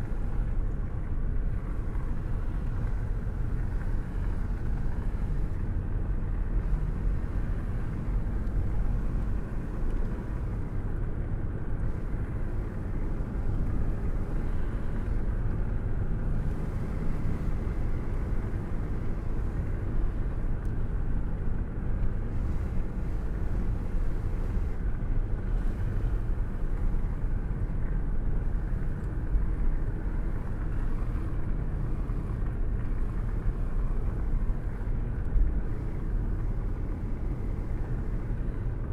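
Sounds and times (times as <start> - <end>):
road and engine rumble: 0.0 - 38.9
wind rushing through car window: 0.0 - 38.9.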